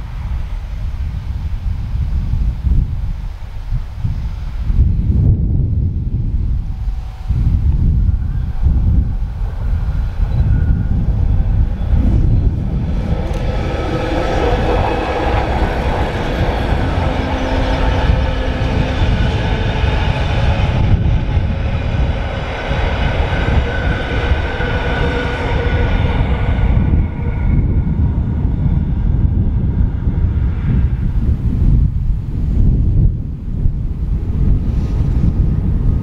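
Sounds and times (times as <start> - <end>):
train running and wheel noise: 0.0 - 36.0
wind rumble on microphone: 0.0 - 36.0.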